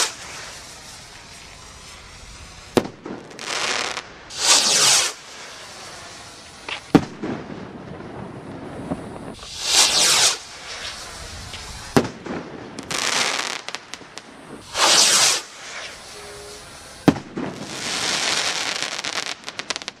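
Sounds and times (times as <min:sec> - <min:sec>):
firework bangs: 0:00.0 - 0:20.0
hissing crackle of firework stars: 0:00.0 - 0:20.0.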